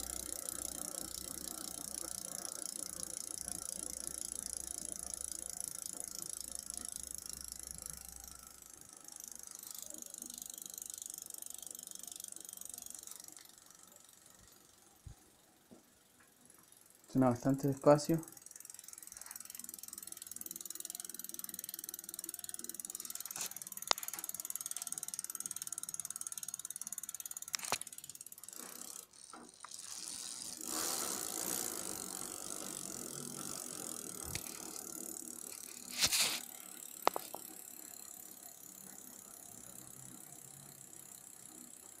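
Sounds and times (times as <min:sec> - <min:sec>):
bike hub ticking freewheel: 0:00.0 - 0:42.0.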